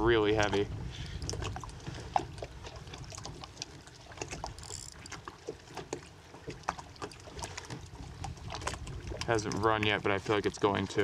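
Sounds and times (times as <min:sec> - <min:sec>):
water lapping around kayak: 0:00.0 - 0:11.0.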